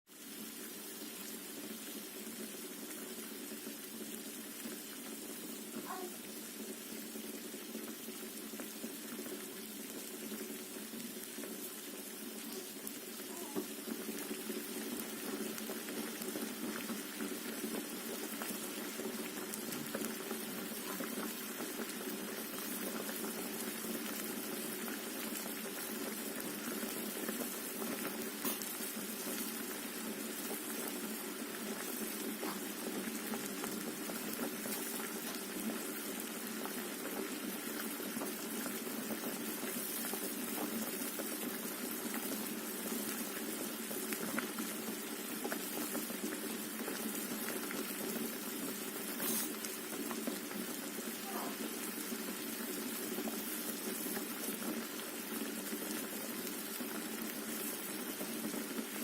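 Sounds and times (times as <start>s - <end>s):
water boiling in a pot: 0.1s - 59.0s.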